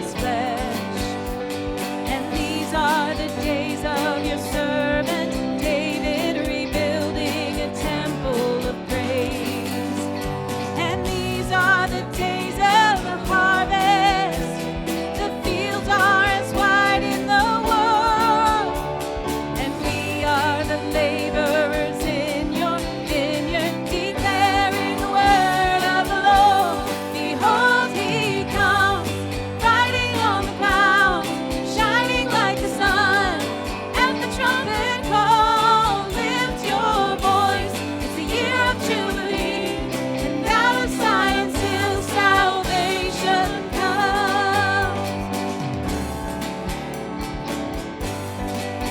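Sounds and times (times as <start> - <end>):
person singing with vibrato: 0.0 - 46.0
bass line: 0.0 - 48.9
instrumental accompaniment: 0.0 - 48.9.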